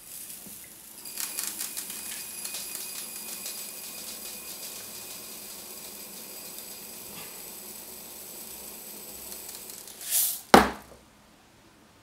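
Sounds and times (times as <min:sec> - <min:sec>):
beads pouring into a glass: 0:00.0 - 0:10.6.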